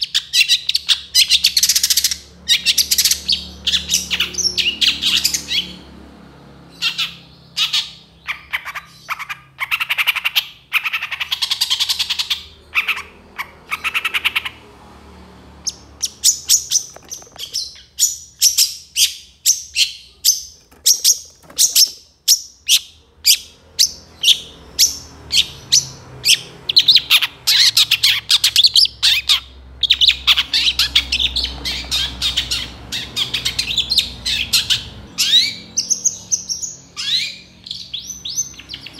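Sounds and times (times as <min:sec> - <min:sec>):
harsh bird squawks: 0:00.0 - 0:05.8, 0:06.7 - 0:14.6, 0:15.6 - 0:38.9.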